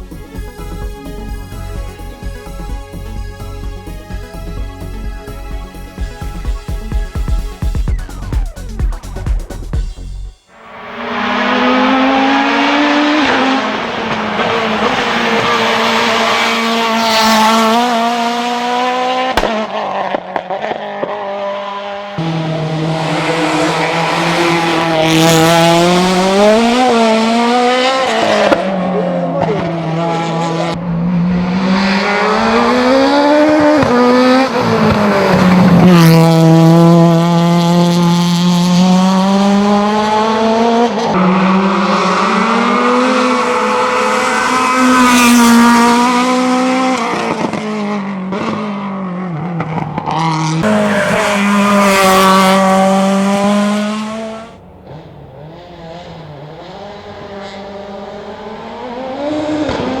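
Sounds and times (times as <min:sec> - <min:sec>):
race car engine revving: 0:10.5 - 1:00.0.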